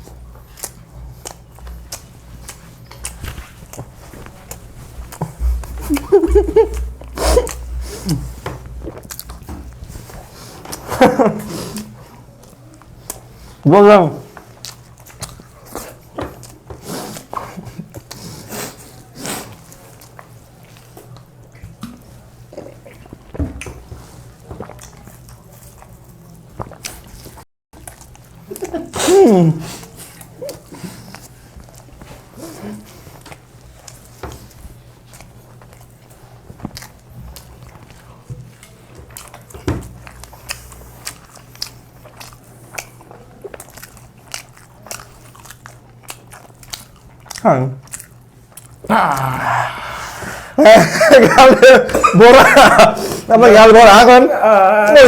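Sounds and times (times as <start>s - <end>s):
people chewing burgers: 0.0s - 55.0s.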